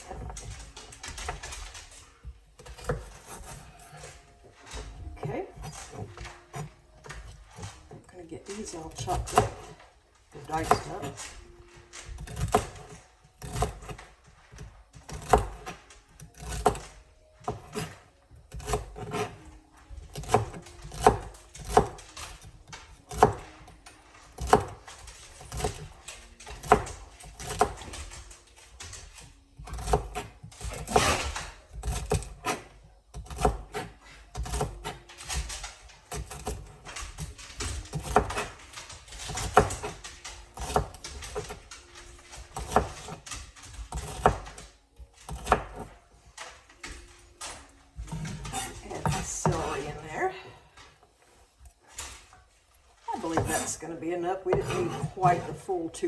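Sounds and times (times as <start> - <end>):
knife chopping on cutting board: 2.6 - 11.3, 12.0 - 28.1, 29.1 - 50.2, 53.1 - 56.0.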